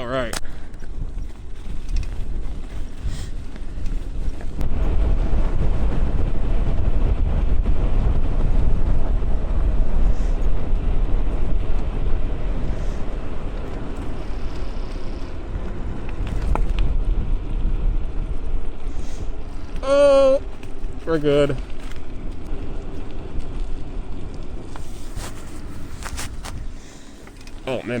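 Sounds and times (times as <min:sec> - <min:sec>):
road and tyre noise: 0:00.0 - 0:28.0
wind rushing over microphone: 0:00.0 - 0:28.0.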